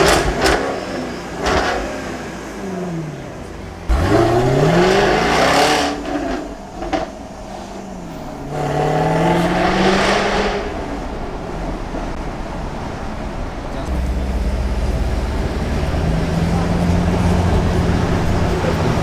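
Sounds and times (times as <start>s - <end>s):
exhaust crack: 0.0s - 12.3s, 13.6s - 19.0s
car engine and exhaust pulling hard: 0.0s - 19.0s.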